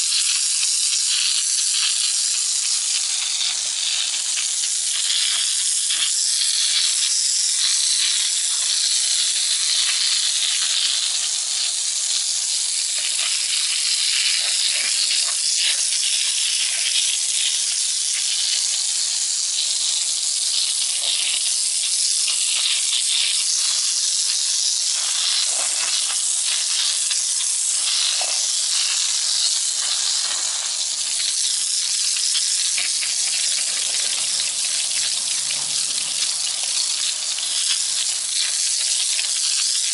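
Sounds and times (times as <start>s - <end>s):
water jet spraying a brick wall: 0.0s - 39.9s.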